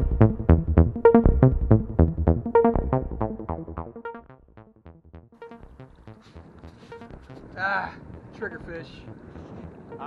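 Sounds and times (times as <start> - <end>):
electronic dance music: 0.0 - 9.2.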